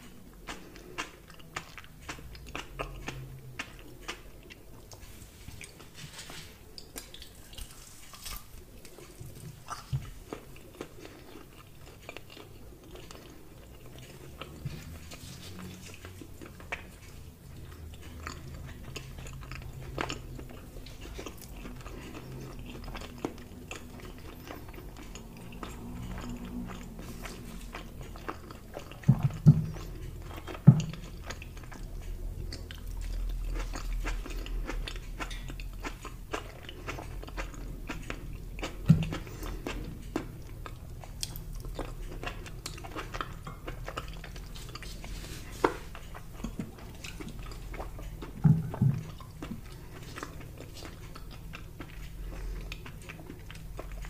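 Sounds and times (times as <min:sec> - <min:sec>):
wet crackly chewing: 0:00.0 - 0:54.0.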